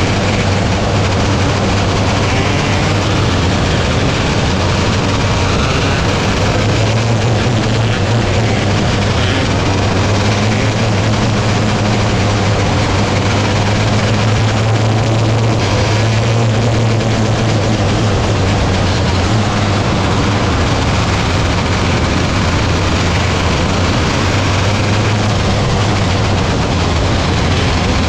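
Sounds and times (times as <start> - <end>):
race car engines droning: 0.0 - 28.0.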